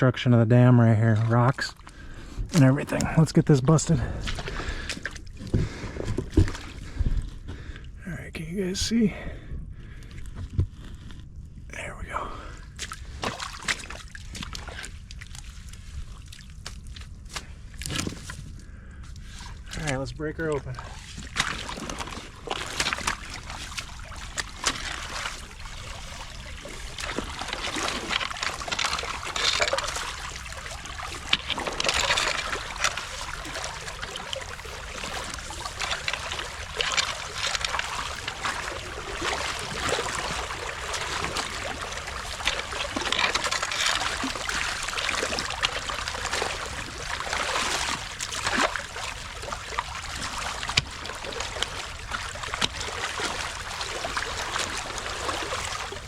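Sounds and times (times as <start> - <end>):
water trickling and splashing: 0.8 - 7.7, 11.8 - 56.0.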